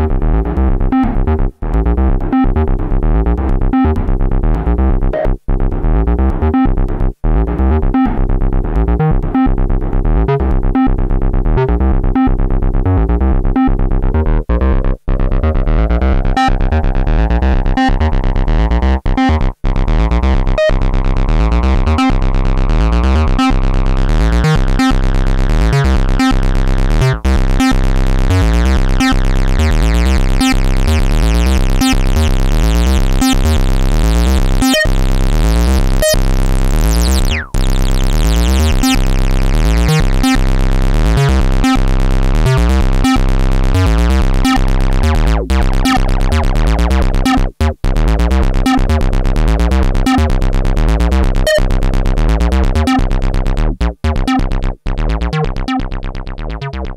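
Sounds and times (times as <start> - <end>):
synthesizer bass pattern: 0.0 - 56.9.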